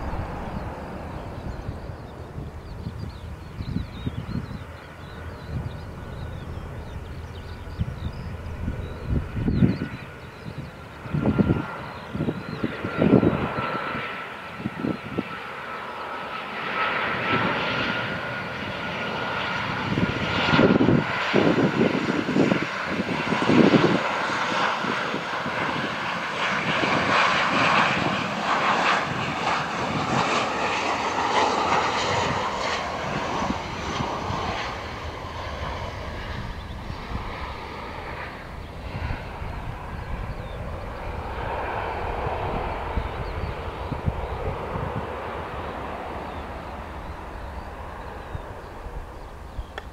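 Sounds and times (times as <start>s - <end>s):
jet engines passing: 0.0s - 49.9s.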